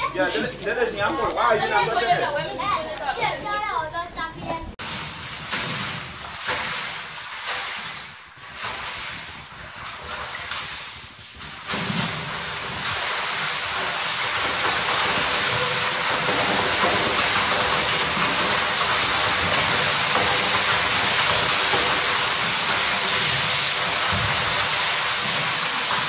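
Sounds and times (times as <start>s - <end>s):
water splashing and churning: 0.0s - 26.0s.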